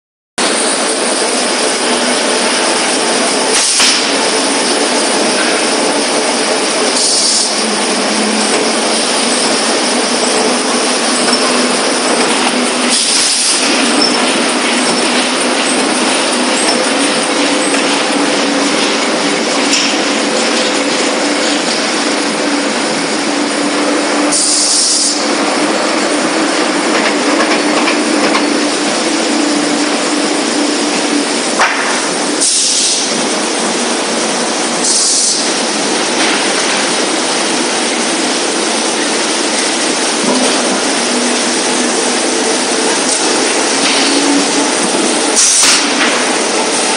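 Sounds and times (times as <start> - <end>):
steady mechanical din: 0.4 - 46.9.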